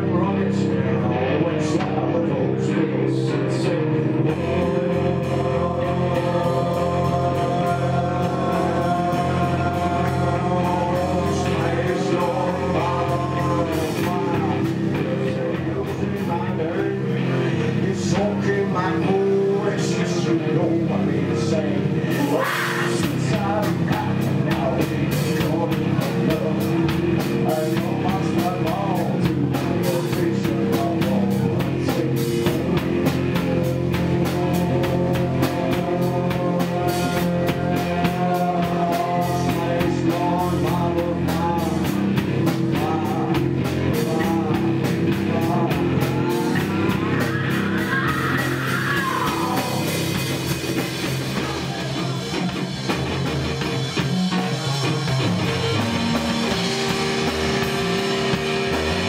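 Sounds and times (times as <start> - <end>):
bass guitar: 0.0 - 59.0
electric guitar: 0.0 - 59.0
man singing: 0.0 - 59.0
drum kit with cymbals: 3.4 - 59.0.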